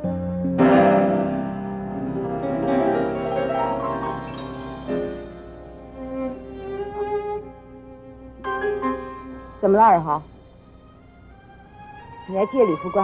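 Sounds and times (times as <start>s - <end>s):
piano: 0.0s - 13.0s
bowed strings: 0.6s - 13.0s.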